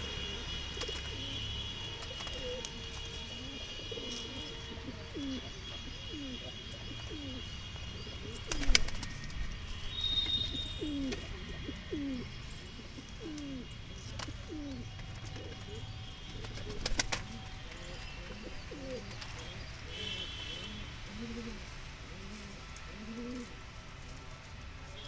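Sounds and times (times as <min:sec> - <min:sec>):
pigeons cooing: 0:00.0 - 0:09.1, 0:10.3 - 0:23.6.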